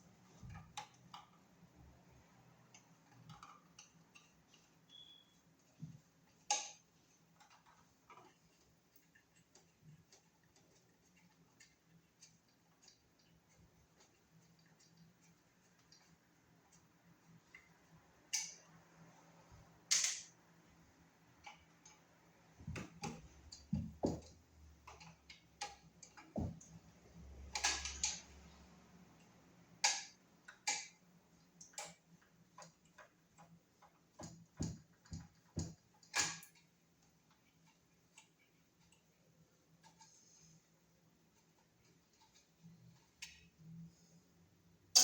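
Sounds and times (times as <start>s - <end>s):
tools clicking and tapping: 0.3s - 18.8s, 19.8s - 20.4s, 21.3s - 28.6s, 29.2s - 40.6s.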